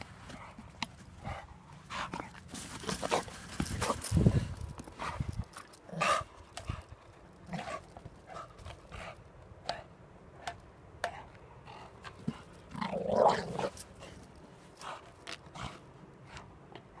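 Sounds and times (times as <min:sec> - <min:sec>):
dog play noises: 0:00.1 - 0:09.9, 0:11.1 - 0:17.0.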